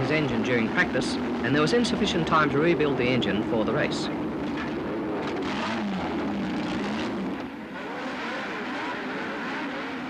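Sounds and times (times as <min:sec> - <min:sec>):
racing car engines revving: 0:00.0 - 0:10.0.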